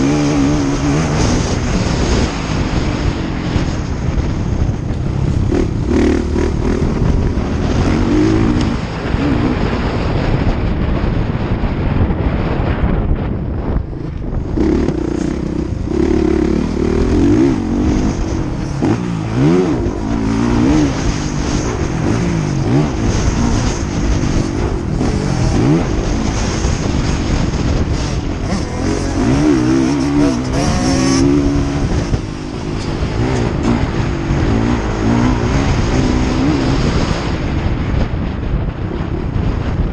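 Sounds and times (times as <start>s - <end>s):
motocross engines revving: 0.0s - 3.8s, 4.8s - 10.1s, 14.4s - 37.6s
low rumble: 0.0s - 39.9s.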